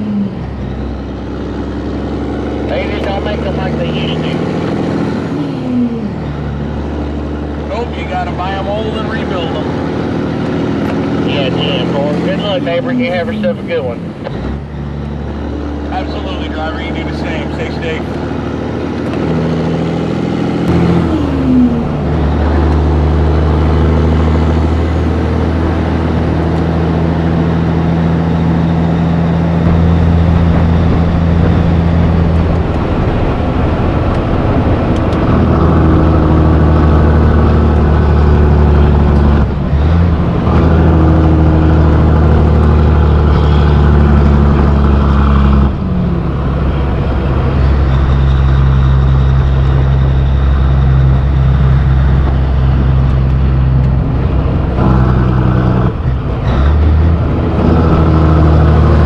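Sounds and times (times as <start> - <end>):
diesel truck engine pulling: 0.0 - 59.0.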